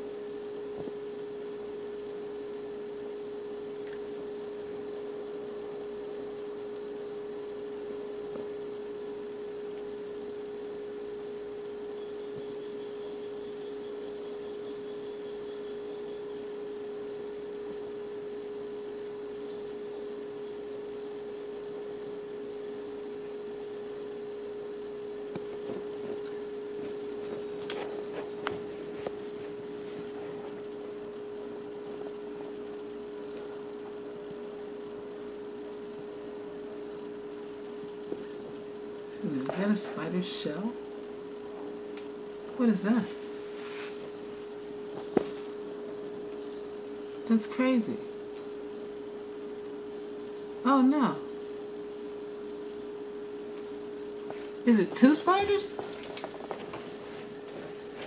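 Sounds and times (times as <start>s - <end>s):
steady electrical hum: 0.0s - 58.0s.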